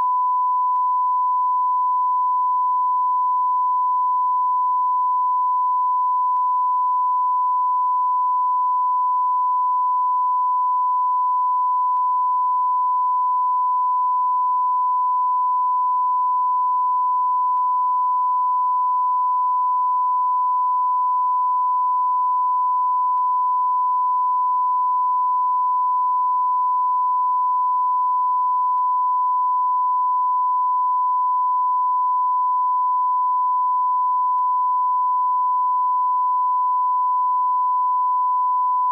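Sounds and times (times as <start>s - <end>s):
continuous pure beep tone: 0.0s - 38.9s.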